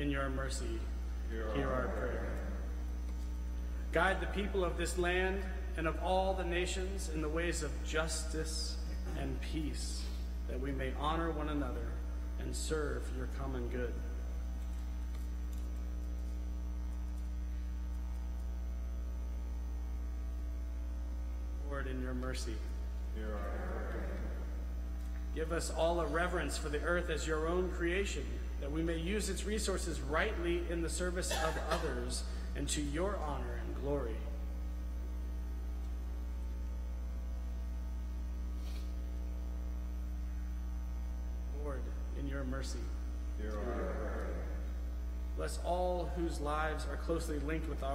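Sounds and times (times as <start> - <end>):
electrical mains hum: 0.0 - 47.9.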